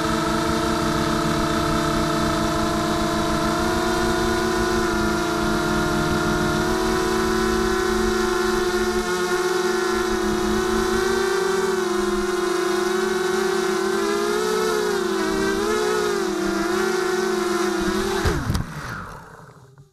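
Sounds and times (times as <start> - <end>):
drone motors whining: 0.0 - 19.9.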